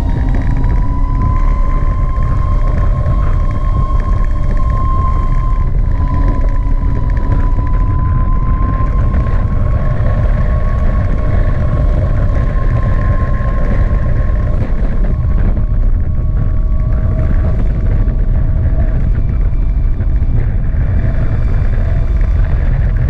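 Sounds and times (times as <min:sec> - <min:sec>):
electric scooter motor whine: 0:00.0 - 0:23.0
wind buffeting microphone: 0:00.0 - 0:23.0.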